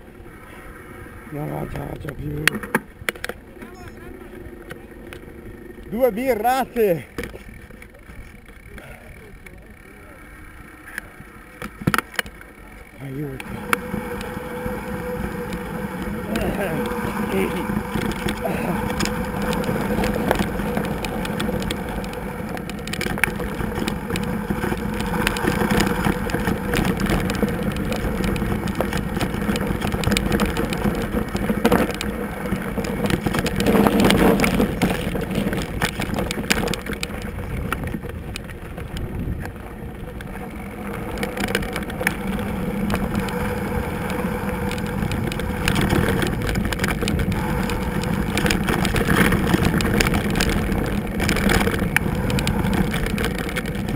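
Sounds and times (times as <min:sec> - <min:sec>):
bike rattling: 0:00.0 - 0:53.9
rush of riding noise: 0:00.0 - 0:53.9
tyres crunching over gravel: 0:10.4 - 0:53.9.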